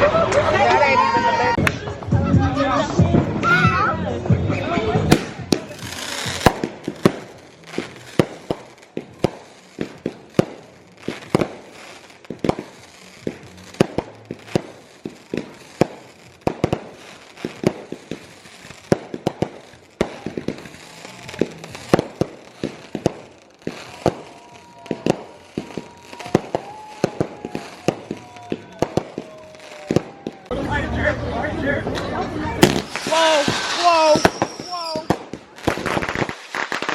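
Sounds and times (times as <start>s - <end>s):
fireworks banging: 4.6s - 30.9s, 31.8s - 36.9s.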